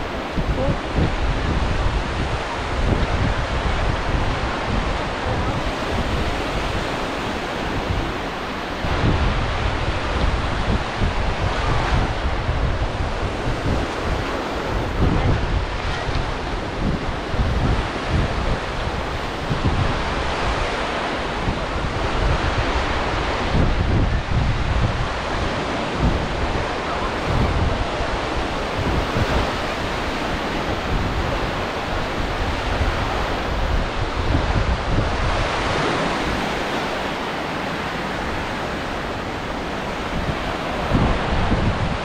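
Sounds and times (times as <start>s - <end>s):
sea waves washing onto beach: 0.0s - 42.0s
wind gusting across microphone: 0.0s - 42.0s.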